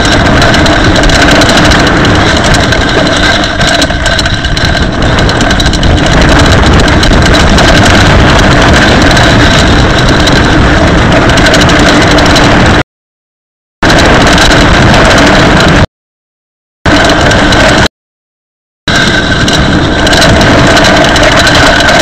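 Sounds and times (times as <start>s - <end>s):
bike tyres and frame rattling: 0.0s - 12.8s, 13.8s - 15.9s, 16.9s - 17.9s, 18.9s - 22.0s
grit grinding in disc brakes: 0.0s - 12.8s, 13.8s - 15.9s, 16.9s - 17.9s, 18.9s - 22.0s.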